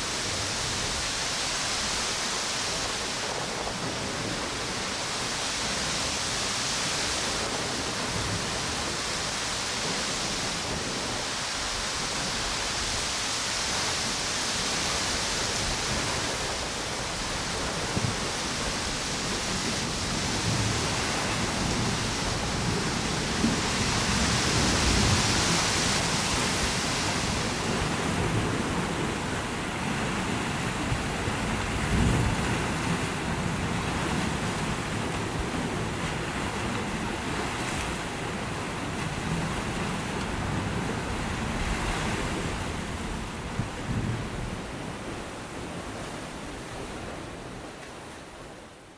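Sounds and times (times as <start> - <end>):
wind gusting on microphone: 0.0 - 47.7
surf washing onto beach: 0.0 - 48.9
wind through palm trees: 0.0 - 48.9.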